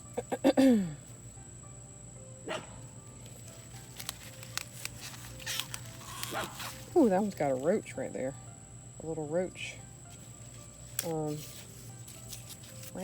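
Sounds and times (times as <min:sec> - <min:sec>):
low steady background noise: 0:00.0 - 0:13.0.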